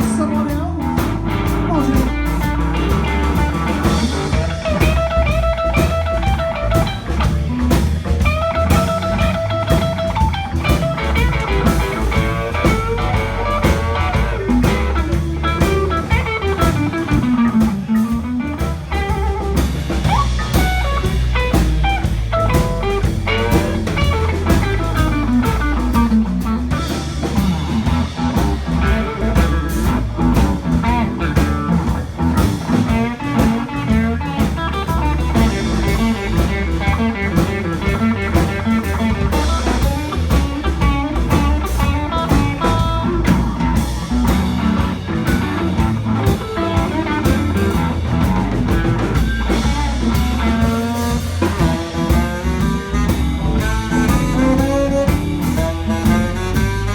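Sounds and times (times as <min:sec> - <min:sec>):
bass: 0:00.0 - 0:56.9
drum kit: 0:00.0 - 0:56.9
lead electric guitar bent notes: 0:00.0 - 0:56.9.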